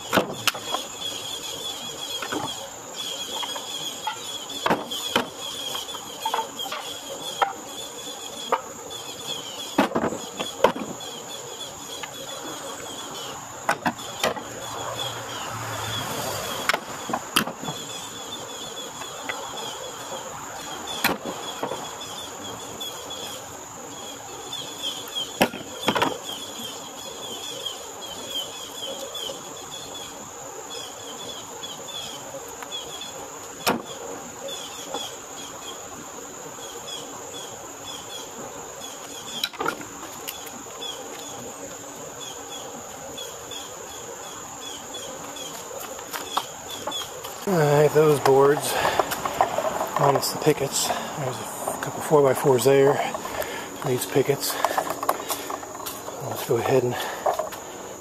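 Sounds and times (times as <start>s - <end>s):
high insect drone: 0.0s - 58.0s
insect chirps: 0.0s - 58.0s.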